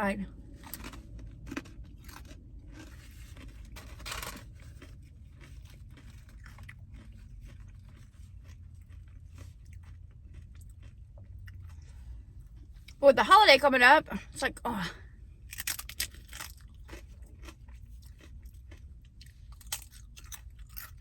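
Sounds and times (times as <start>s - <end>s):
person chewing food: 0.5s - 13.0s, 15.4s - 21.0s.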